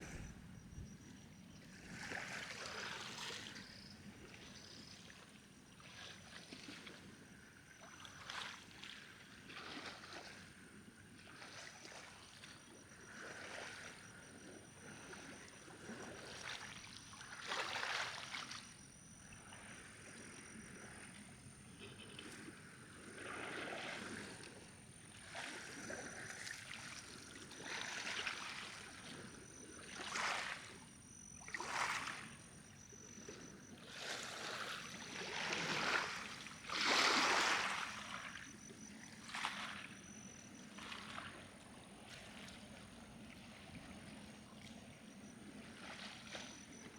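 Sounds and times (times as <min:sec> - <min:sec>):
small waves lapping: 0:00.0 - 0:46.9.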